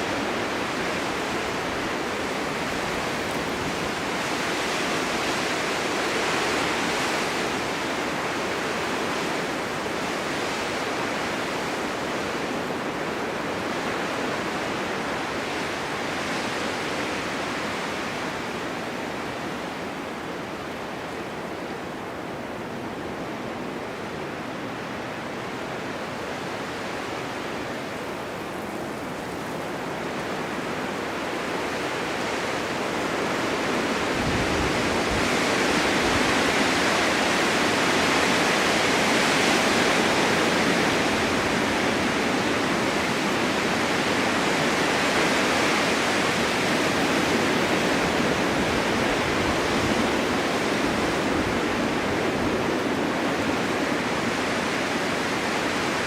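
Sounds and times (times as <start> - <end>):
blizzard wind hissing: 0.0 - 20.4, 25.6 - 56.0.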